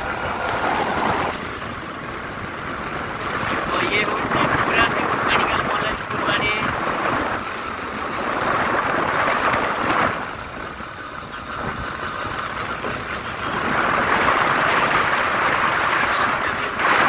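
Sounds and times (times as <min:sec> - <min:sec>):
motorbike road noise: 0:00.0 - 0:17.0
wind rushing over microphone: 0:00.0 - 0:17.0.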